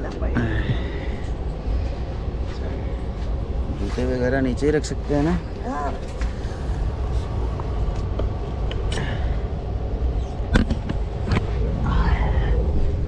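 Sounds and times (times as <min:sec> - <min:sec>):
train coach rumble and hum: 0:00.0 - 0:13.0.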